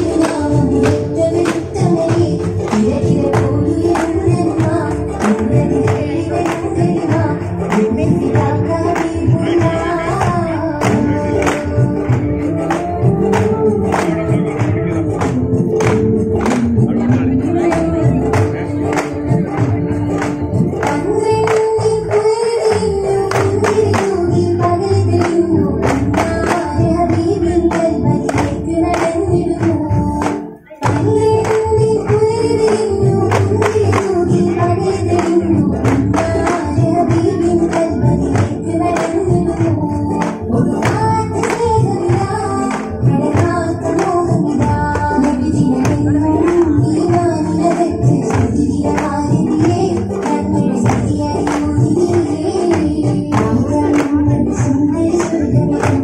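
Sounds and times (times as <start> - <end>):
frame drums struck in rhythm: 0.0 - 56.0
person singing devotional song: 0.0 - 56.0.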